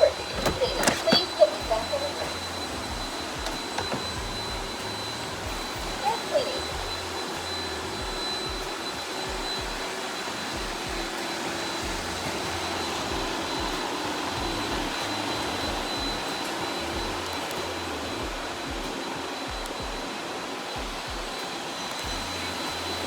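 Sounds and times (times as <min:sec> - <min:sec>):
pulsing low hum: 0:00.0 - 0:20.1, 0:22.0 - 0:23.0
robot vacuum whirring: 0:00.0 - 0:23.0.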